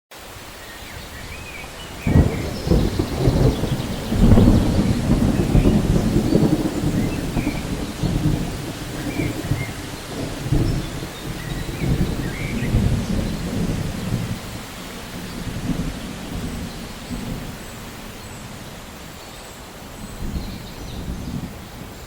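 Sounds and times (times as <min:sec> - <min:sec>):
steady rain: 0:00.1 - 0:22.0
thunder rumbling: 0:01.0 - 0:19.0, 0:19.9 - 0:22.0.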